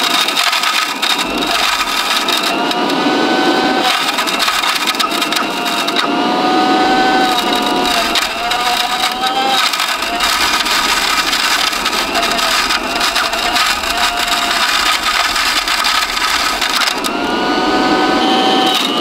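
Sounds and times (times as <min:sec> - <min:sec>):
vacuum motor whining: 0:00.0 - 0:19.0
spade crunching and scraping dirt: 0:00.1 - 0:02.8, 0:03.8 - 0:06.0, 0:06.9 - 0:17.6.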